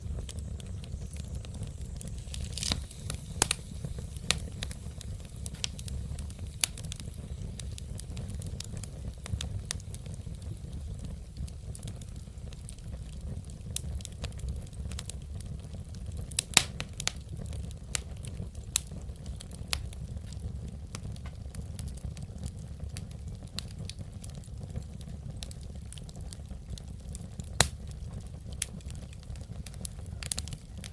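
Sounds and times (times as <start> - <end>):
fire crackling and popping: 0.0 - 30.9
fire rumbling: 0.0 - 30.9.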